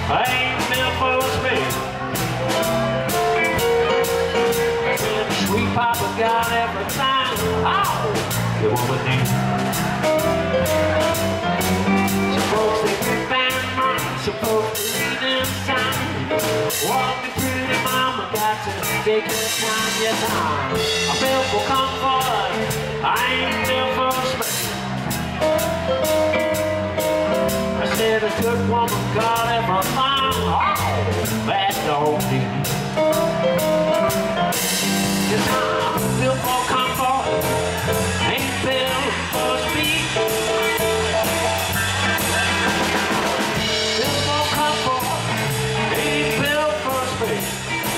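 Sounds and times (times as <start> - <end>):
electric guitar lead: 0.0 - 29.1, 32.2 - 47.9
bass guitar: 0.0 - 47.9
drum kit: 0.0 - 47.9
keyboard: 0.0 - 47.9.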